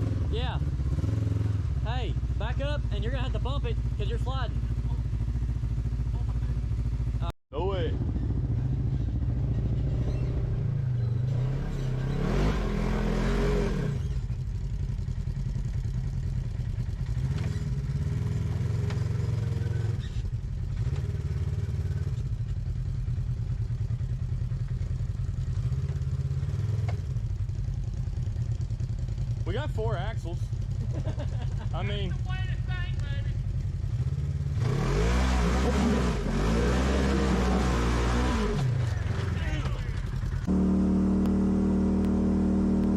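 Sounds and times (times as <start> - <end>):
engine idling and revving: 0.0 - 42.9.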